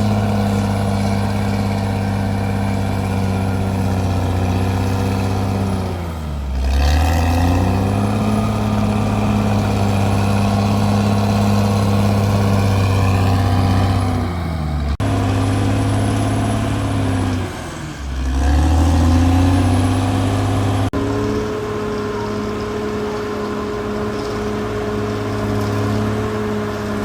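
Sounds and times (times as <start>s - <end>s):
bulldozer diesel engine under load: 0.0s - 27.0s.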